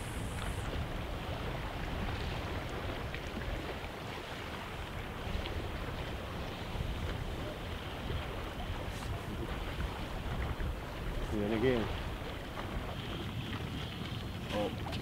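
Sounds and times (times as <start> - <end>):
sea washing against pier: 0.0 - 15.0
wind buffeting microphone: 0.0 - 15.0.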